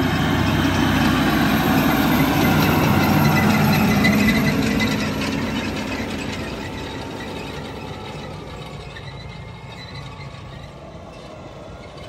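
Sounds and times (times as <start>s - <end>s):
harrow rattling clatter: 0.0s - 12.0s
tractor engine under load: 0.0s - 12.0s.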